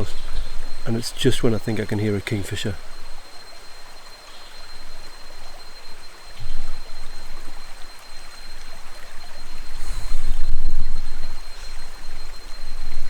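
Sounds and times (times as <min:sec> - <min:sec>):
high insect tone: 0:00.0 - 0:13.0.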